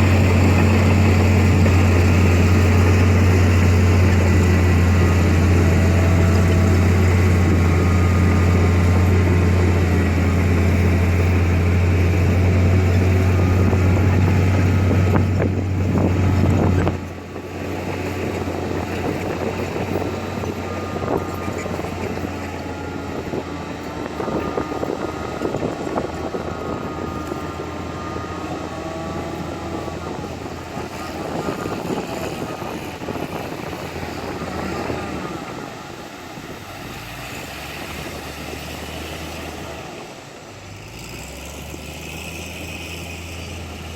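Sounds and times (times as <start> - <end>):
wavering whine: 0.0 - 40.4
diesel machinery engine drone: 0.0 - 43.9.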